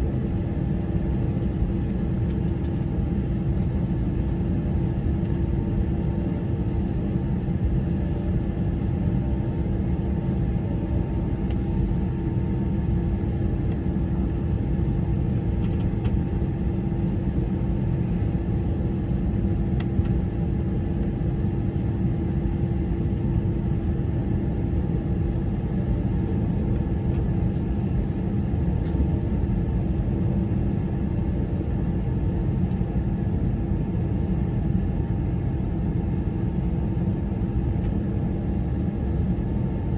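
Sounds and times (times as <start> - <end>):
airliner cabin rumble: 0.0 - 39.9
steady hum: 0.0 - 39.9.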